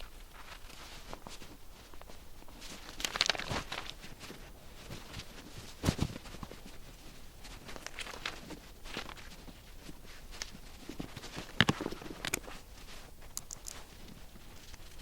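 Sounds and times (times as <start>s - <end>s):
cloth rustling: 0.0s - 15.0s.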